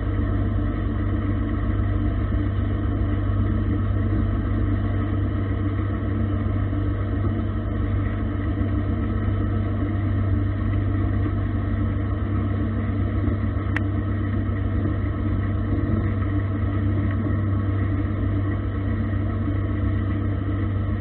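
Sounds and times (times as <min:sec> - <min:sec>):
lathe humming: 0:00.0 - 0:21.0.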